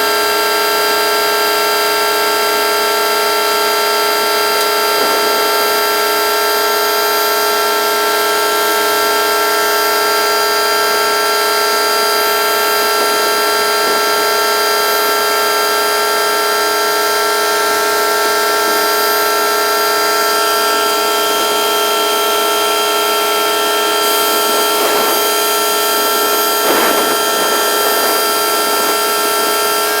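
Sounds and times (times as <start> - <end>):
high mechanical whine of pump truck: 0.0 - 30.0.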